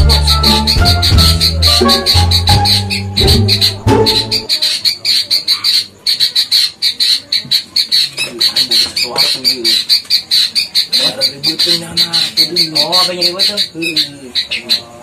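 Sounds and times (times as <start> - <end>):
faint low voices: 0.0 - 15.0
rapid rhythmic chirping: 0.0 - 15.0.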